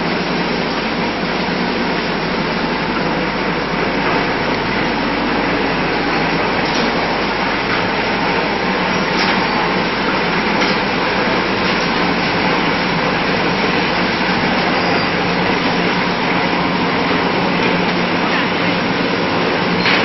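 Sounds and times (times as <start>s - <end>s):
machinery low hum: 0.0s - 20.0s.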